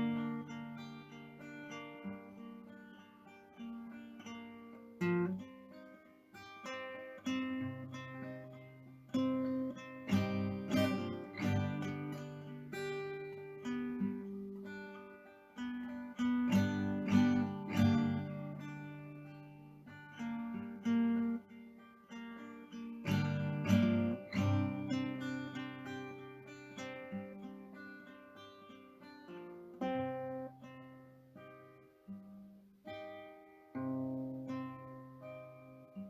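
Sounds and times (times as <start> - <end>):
solo acoustic guitar: 0.0 - 36.0.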